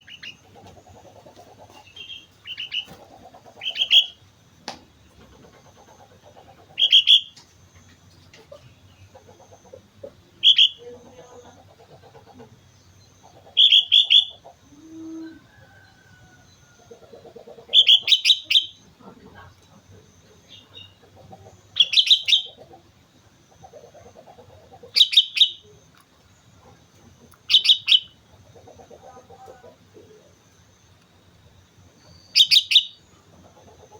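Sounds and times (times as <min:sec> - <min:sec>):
bulbul singing: 0:00.0 - 0:01.0, 0:01.7 - 0:03.0, 0:03.6 - 0:04.8, 0:06.7 - 0:08.0, 0:08.8 - 0:33.9.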